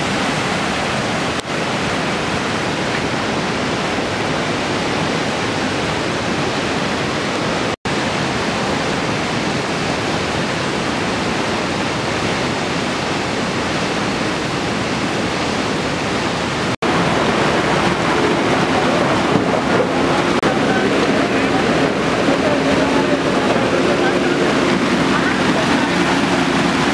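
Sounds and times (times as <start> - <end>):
floodwater rushing roar: 0.0 - 26.9.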